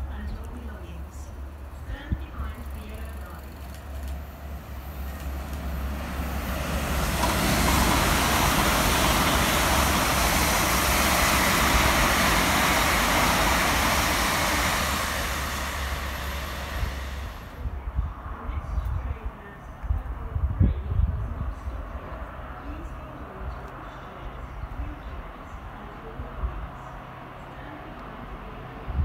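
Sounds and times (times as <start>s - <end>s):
train passing at speed: 0.0s - 29.0s
wheels on rail and air rush: 0.0s - 29.0s.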